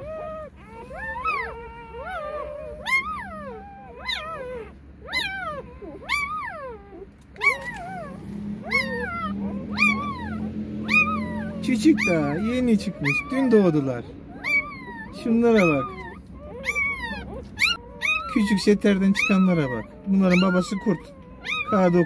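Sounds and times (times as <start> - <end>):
puppy crying: 0.0 - 22.0.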